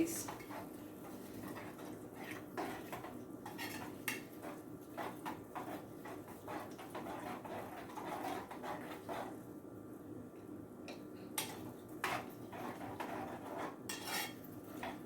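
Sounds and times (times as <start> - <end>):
utensil clinking and scraping in pan: 0.0 - 9.4, 11.4 - 15.0.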